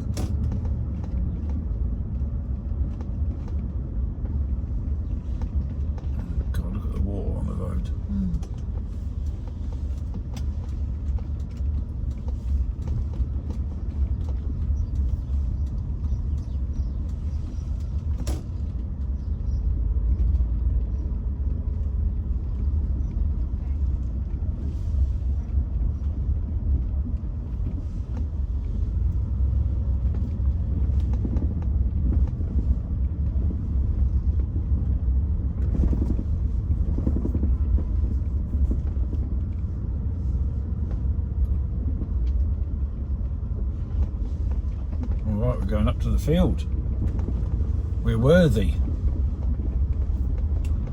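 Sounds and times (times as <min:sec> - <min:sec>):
car engine and tyre rumble: 0:00.0 - 0:50.9.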